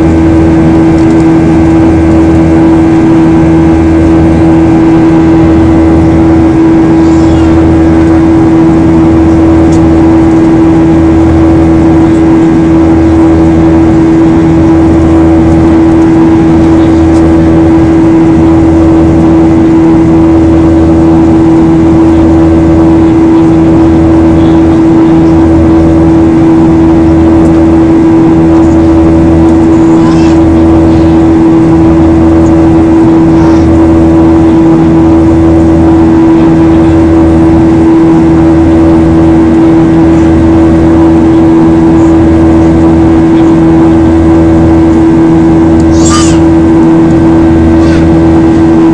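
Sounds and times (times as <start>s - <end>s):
jet engines droning in cabin: 0.0s - 48.9s
pulsing low hum: 0.0s - 48.9s.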